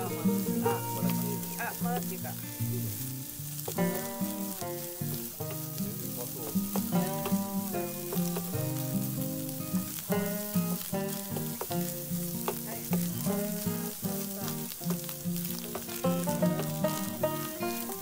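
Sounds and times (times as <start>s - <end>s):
background music: 0.0s - 18.0s
eggs and bacon sizzling in a pan: 0.0s - 18.0s
wooden spatula scraping a pan: 3.6s - 18.0s.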